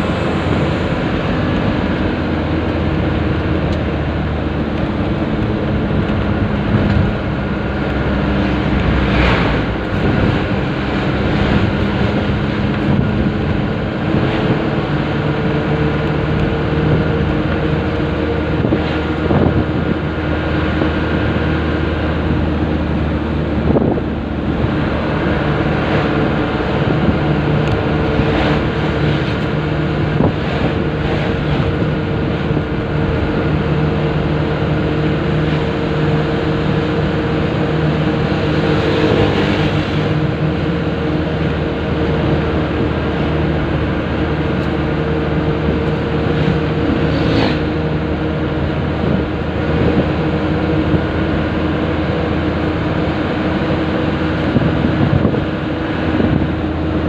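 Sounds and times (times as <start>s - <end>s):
road and wind noise: 0.0s - 57.0s
truck engine running: 0.0s - 57.0s.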